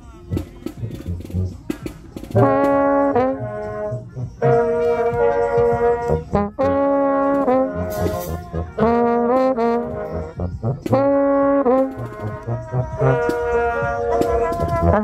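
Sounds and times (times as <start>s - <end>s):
brass horns playing held notes: 0.9s - 15.0s.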